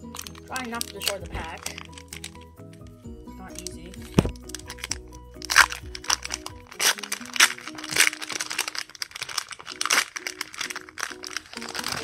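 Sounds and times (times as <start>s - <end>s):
background music: 0.0s - 12.0s
foil wrapper crinkling: 0.0s - 12.0s.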